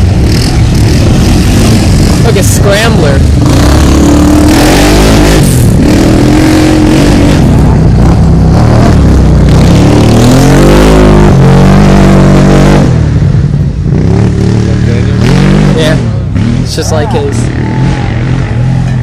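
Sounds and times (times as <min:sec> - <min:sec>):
off-road engines revving: 0:00.0 - 0:19.0.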